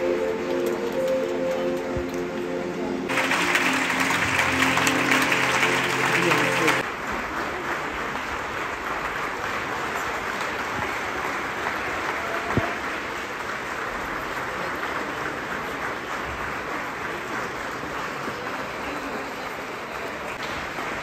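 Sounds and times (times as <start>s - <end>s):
audience applauding: 3.1s - 21.0s.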